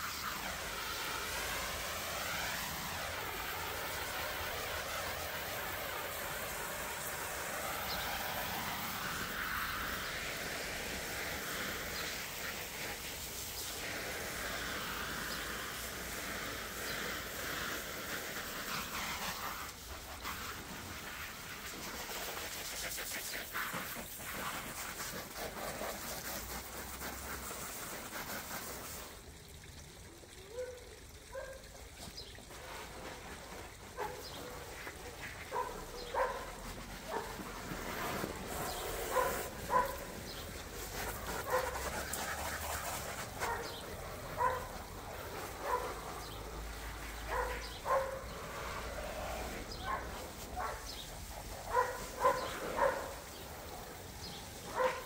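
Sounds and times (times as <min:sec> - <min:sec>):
hose spray gun hissing: 0:00.0 - 0:30.4, 0:31.0 - 0:55.0.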